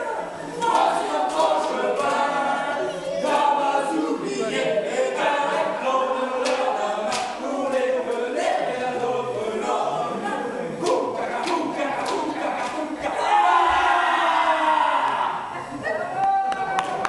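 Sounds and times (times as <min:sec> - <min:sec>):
choir singing: 0:00.0 - 0:15.5.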